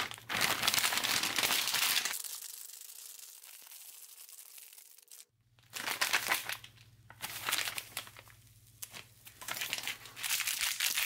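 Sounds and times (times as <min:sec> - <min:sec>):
foil pouch crinkling: 0:00.0 - 0:11.0.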